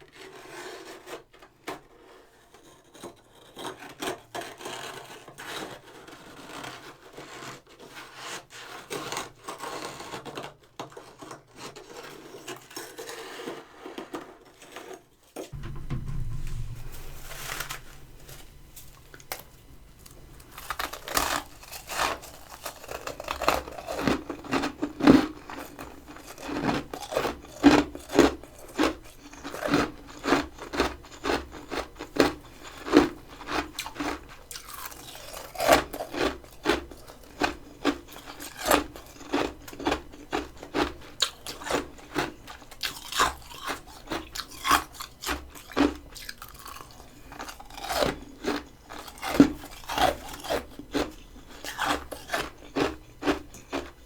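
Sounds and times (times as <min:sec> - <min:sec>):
crunching and chewing frost: 0:00.0 - 0:15.5, 0:18.5 - 0:54.0.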